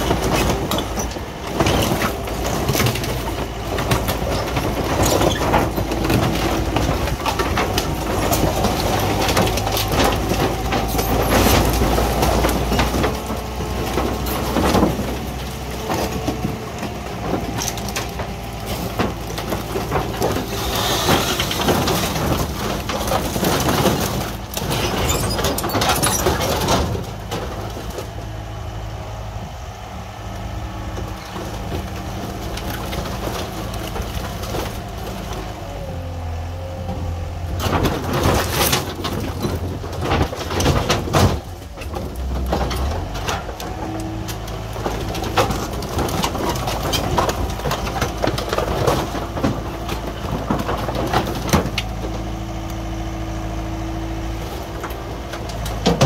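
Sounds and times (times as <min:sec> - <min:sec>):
diesel engine running: 0:00.0 - 0:56.0
wood crunching and cracking: 0:00.0 - 0:56.0.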